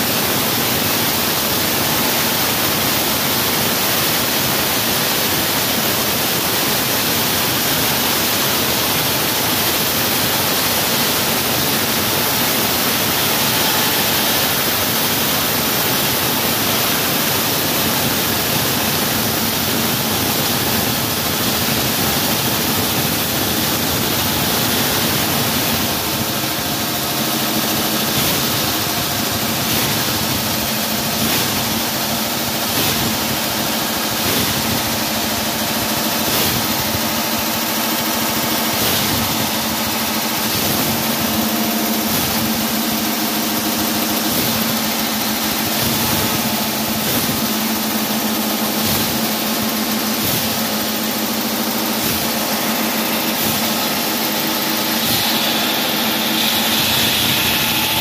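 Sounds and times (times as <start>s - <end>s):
machine hum with pitched tones: 0.0s - 58.0s
wall saw cutting: 6.7s - 58.0s.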